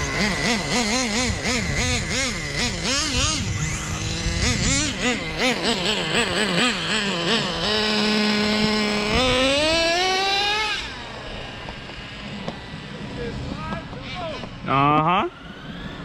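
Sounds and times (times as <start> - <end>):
nitro engine revving: 0.0 - 16.0.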